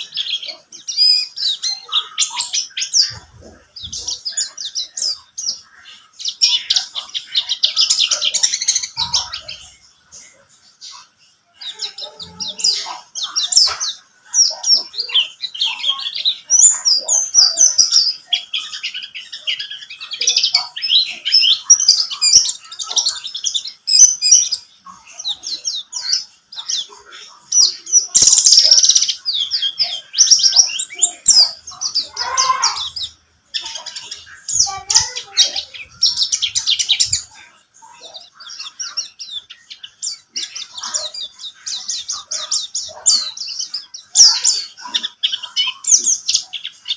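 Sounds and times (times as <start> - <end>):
bird twittering song: 0.0 - 46.9.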